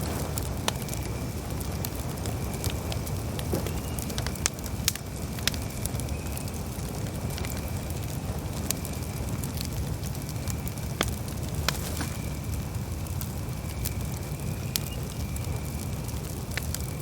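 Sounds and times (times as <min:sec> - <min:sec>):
campfire crackling: 0:00.0 - 0:17.0
low rumble of burning wood: 0:00.0 - 0:17.0.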